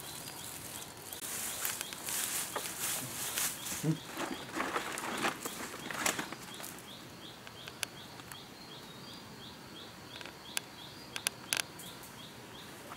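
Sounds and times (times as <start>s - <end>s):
faint forest hiss: 0.0s - 12.9s.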